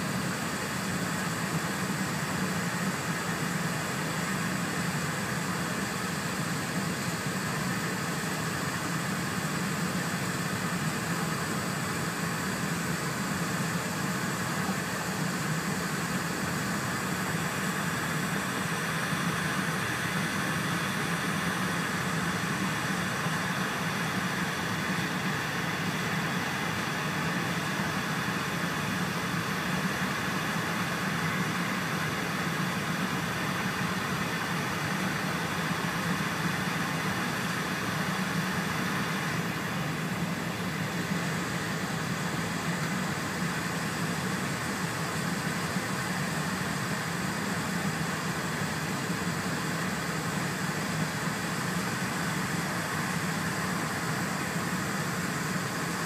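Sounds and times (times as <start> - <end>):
train cabin rumble and hiss: 0.0 - 56.0.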